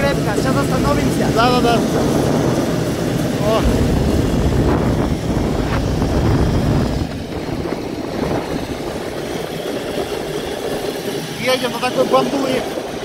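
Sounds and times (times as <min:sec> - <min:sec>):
cable car low rumble: 0:00.0 - 0:13.0
wind on microphone: 0:00.0 - 0:13.0.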